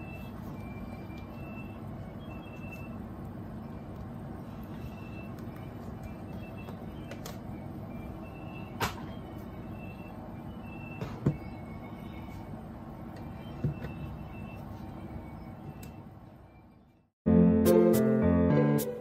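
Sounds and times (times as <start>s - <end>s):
low background hum: 0.0s - 17.1s.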